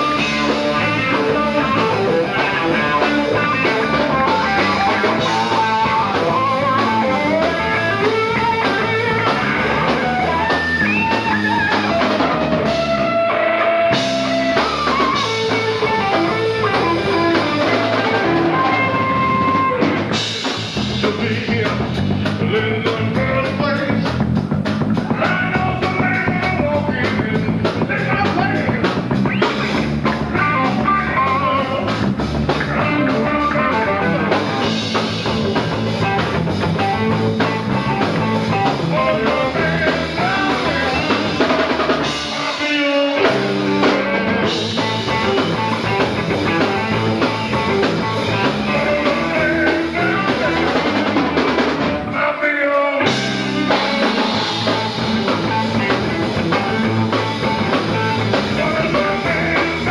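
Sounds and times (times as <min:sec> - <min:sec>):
electric guitar bending notes: 0:00.0 - 0:52.2, 0:53.0 - 0:59.9
rock band playing: 0:00.0 - 0:59.9.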